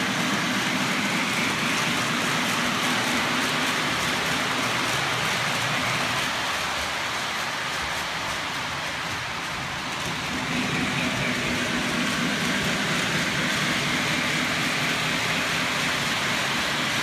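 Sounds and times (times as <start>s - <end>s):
model train wheels rattling: 0.1s - 17.0s.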